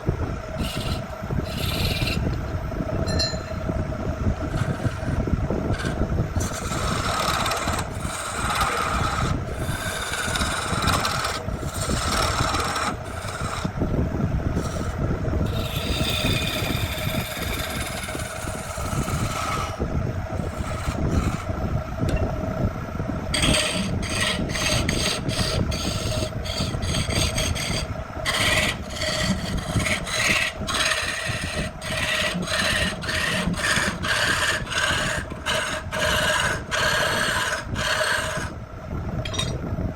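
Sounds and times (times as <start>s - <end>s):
machine humming: 0.0s - 39.9s
hand tool rasping wood: 0.6s - 2.2s, 4.5s - 13.7s, 14.6s - 19.8s, 20.4s - 21.5s, 23.4s - 38.6s.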